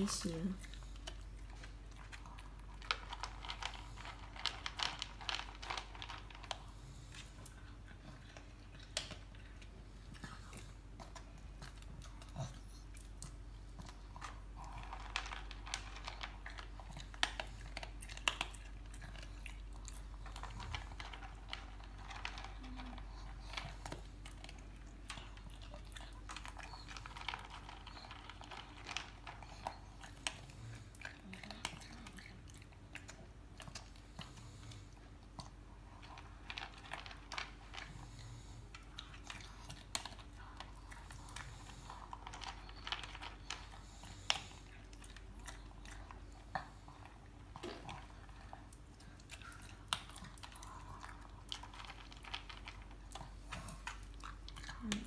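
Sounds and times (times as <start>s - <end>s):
dog crunching dry kibble: 0.0s - 55.0s.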